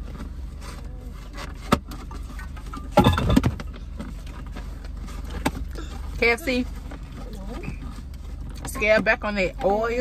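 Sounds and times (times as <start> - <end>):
car cabin hum: 0.0 - 10.0.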